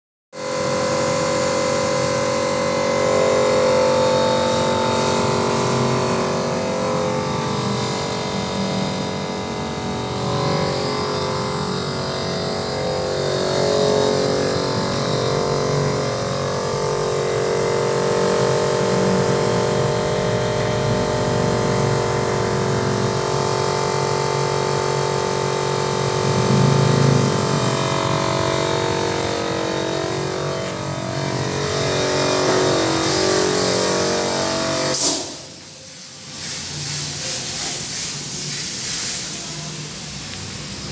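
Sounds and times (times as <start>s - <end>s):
electric door motor humming: 0.4s - 35.6s.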